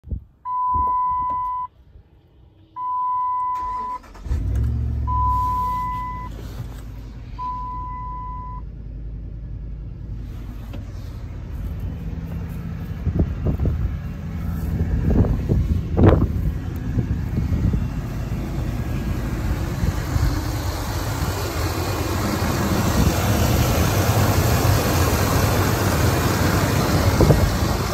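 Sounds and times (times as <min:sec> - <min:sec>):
car engine starting and idling: 0:00.4 - 0:27.9.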